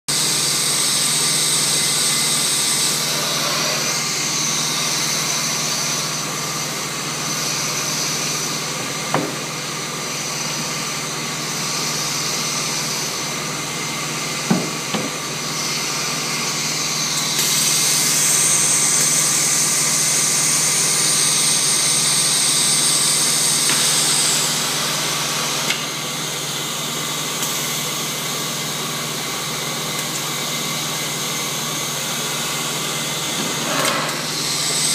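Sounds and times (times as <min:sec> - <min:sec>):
vacuum pump whining: 0:00.1 - 0:34.9.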